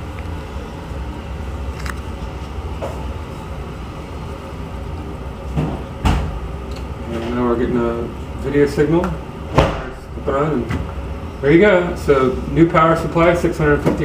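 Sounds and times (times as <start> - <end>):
computer fans humming: 0.0 - 14.0.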